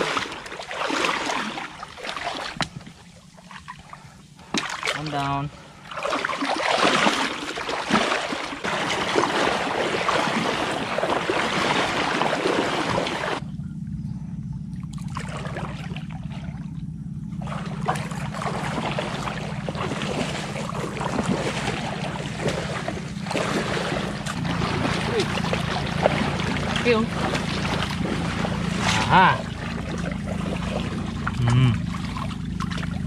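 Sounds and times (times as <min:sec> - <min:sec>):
person wading through water: 0:00.0 - 0:13.4, 0:14.8 - 0:33.0
steady low hum: 0:00.0 - 0:33.0.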